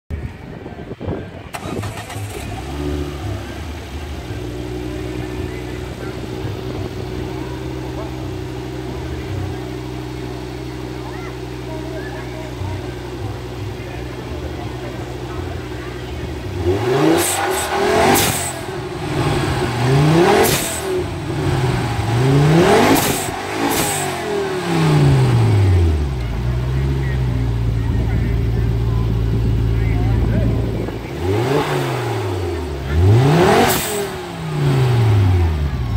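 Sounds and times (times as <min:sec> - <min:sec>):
car engine starting and idling: 0:00.2 - 0:35.9
exhaust crackles: 0:00.2 - 0:35.9.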